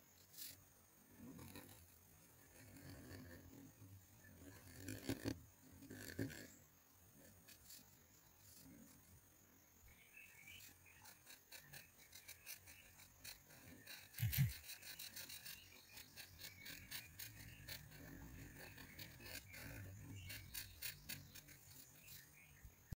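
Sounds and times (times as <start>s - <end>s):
marker scratching on paper: 0.0s - 6.6s, 7.2s - 9.1s, 10.4s - 22.6s.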